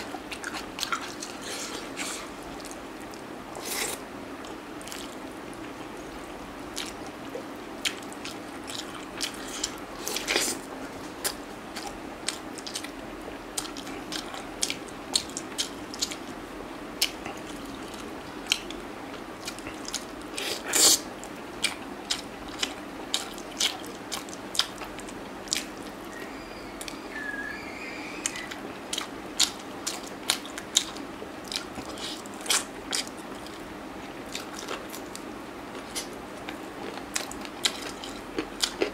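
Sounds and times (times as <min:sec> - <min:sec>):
person chewing: 0:00.0 - 0:05.2, 0:06.8 - 0:13.0, 0:13.6 - 0:16.3, 0:17.0 - 0:18.8, 0:19.4 - 0:27.4, 0:28.2 - 0:33.6, 0:34.3 - 0:38.9.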